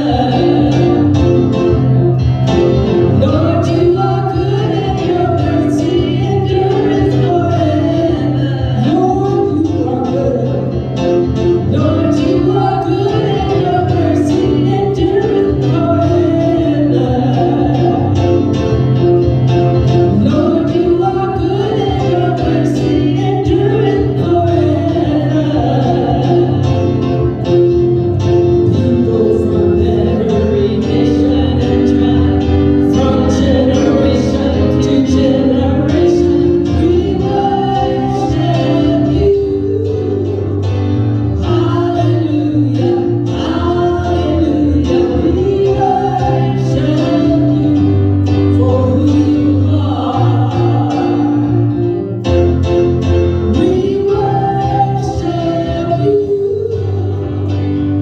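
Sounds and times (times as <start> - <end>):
gospel group singing with band: 0.0 - 58.0.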